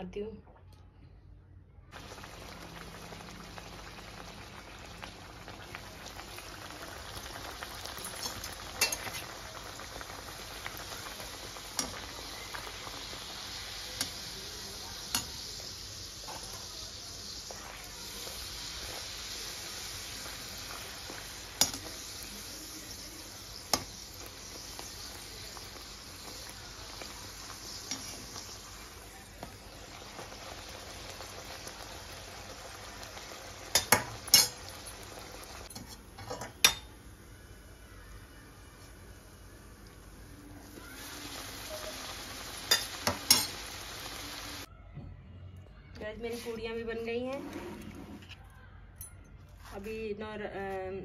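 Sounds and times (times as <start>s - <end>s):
deep-frying sizzle in hot oil: 1.9s - 44.7s.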